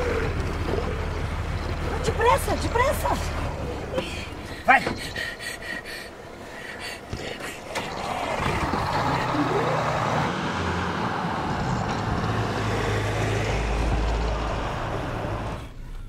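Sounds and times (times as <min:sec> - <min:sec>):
car engine rumbling: 0:00.0 - 0:16.0
road and tyre noise: 0:00.0 - 0:16.0.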